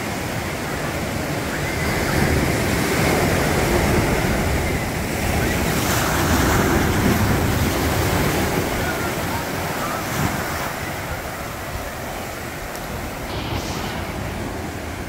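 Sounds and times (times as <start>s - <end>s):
ocean surf breaking on shore: 0.0s - 15.0s
wind buffeting microphone: 0.6s - 15.0s.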